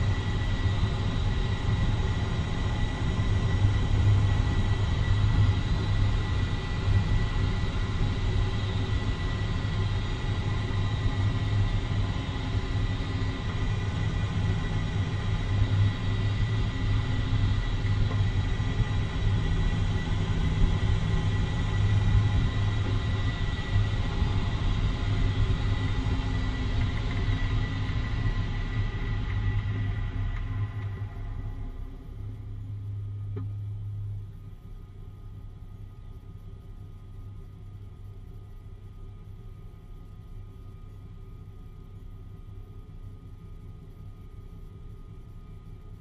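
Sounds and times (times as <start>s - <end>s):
vehicle engine rumble: 0.0s - 46.0s.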